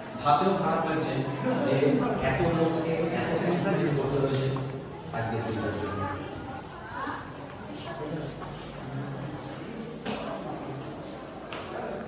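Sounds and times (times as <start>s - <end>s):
faint indistinct voices: 0.0s - 12.0s
room noise: 0.0s - 12.0s.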